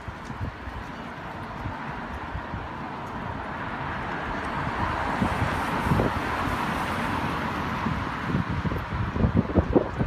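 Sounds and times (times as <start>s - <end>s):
traffic on wet road: 0.0s - 10.0s
wind buffeting microphone: 0.0s - 10.0s.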